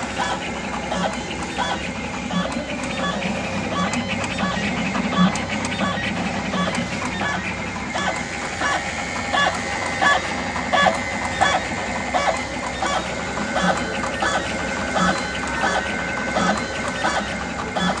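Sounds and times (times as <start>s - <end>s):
steady high whine: 0.0s - 18.0s
wire cutting machine clacking: 0.0s - 18.0s.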